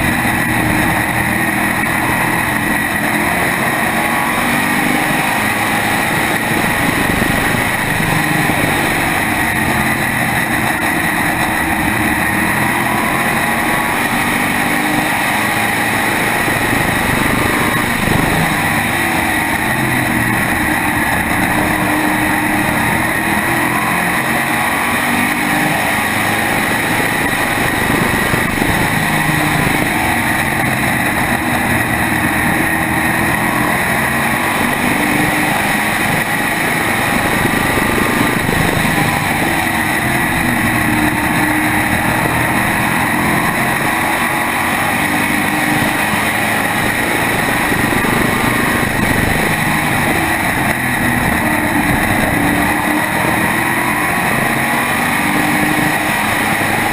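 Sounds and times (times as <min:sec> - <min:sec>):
race car engine running hard: 0:00.0 - 0:56.9.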